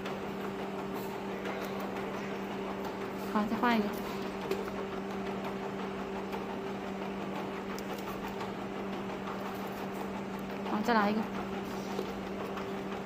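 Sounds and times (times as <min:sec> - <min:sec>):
conveyor machine hum: 0:00.0 - 0:13.0.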